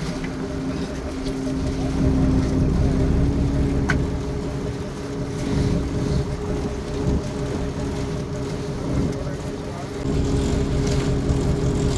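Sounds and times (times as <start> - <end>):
boat engine humming: 0.0 - 11.9.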